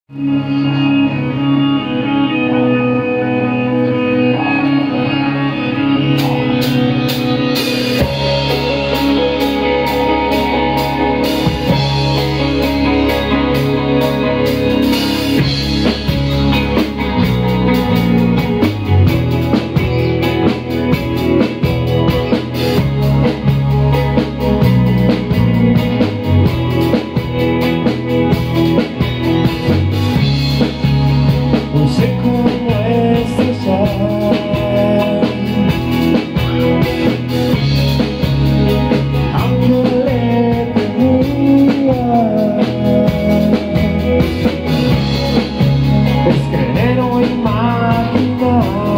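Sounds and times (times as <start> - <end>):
electric bass: 0.0 - 48.9
electric guitar: 0.1 - 48.9
drum kit: 4.2 - 48.9.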